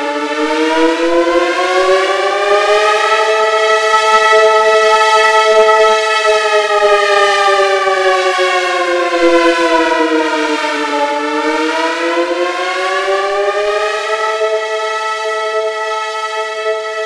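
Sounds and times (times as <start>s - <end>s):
dual-tone siren chord: 0.0s - 17.0s.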